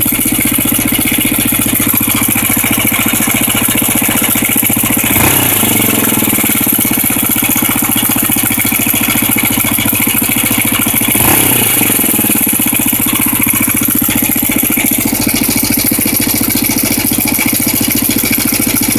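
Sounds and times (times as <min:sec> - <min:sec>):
motorcycle engine idling with rattle: 0:00.0 - 0:18.9.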